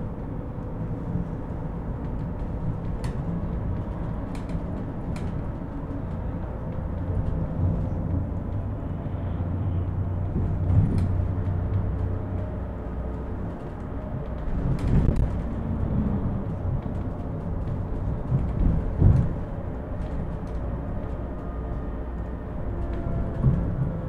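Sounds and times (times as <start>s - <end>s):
knocks and rattles over bumps: 0.0s - 9.2s, 10.0s - 21.4s, 22.3s - 24.0s
road and tyre rumble: 0.0s - 24.0s.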